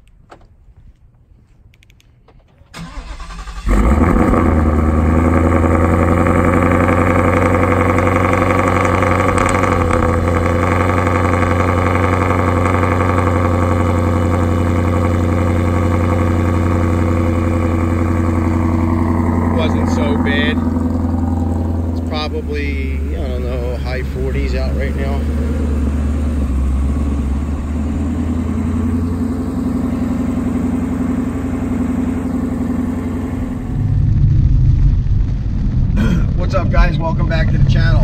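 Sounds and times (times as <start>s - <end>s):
car engine idling: 2.2s - 38.0s.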